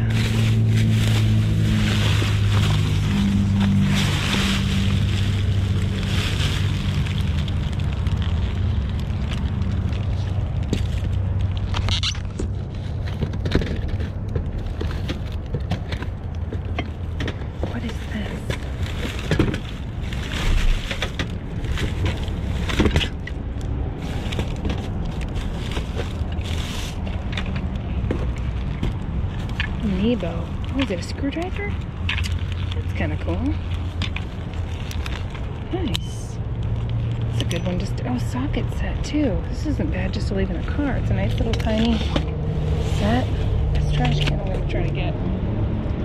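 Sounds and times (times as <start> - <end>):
rustling of trash: 0.0 - 44.8
low steady rumble: 0.0 - 46.0.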